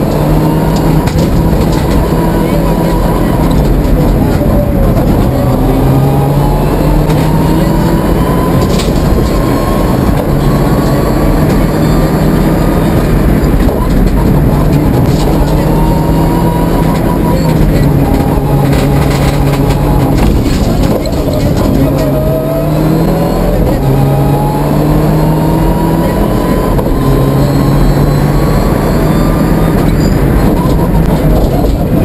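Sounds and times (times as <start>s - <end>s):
car engine revving: 0.0s - 32.0s
tyre and road noise: 0.0s - 32.0s.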